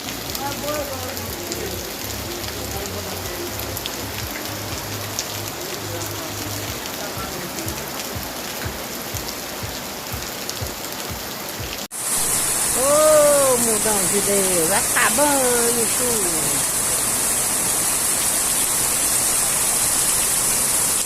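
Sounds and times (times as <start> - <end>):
heavy rain hissing: 0.0 - 21.0
raindrops ticking close: 0.0 - 21.0.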